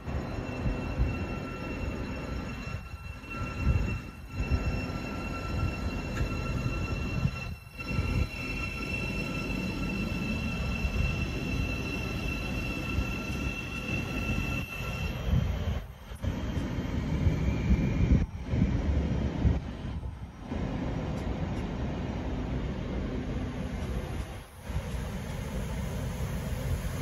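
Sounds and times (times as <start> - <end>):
electric train low rumble: 0.0 - 27.0.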